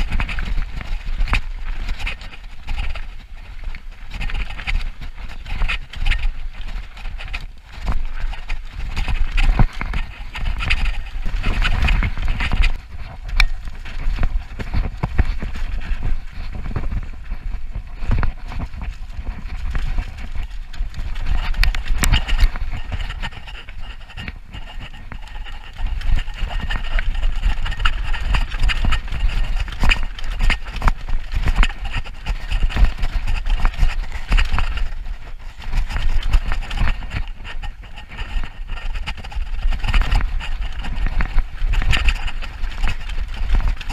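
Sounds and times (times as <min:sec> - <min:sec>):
bike chain and frame rattling: 0:00.0 - 0:43.9
wind buffeting microphone: 0:00.0 - 0:43.9.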